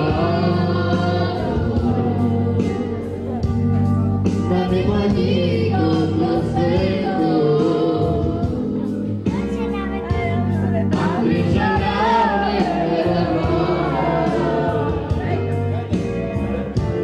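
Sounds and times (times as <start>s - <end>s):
boy singing into microphone: 0.0s - 3.6s, 4.3s - 15.4s
electronic keyboard: 0.0s - 17.0s.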